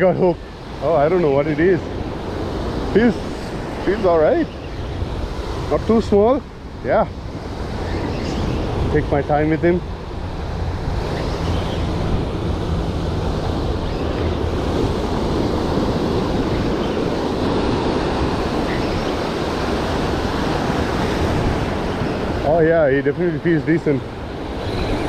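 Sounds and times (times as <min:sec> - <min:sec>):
sea surf breaking on beach: 0:00.0 - 0:25.0
wind buffeting microphone: 0:00.0 - 0:25.0.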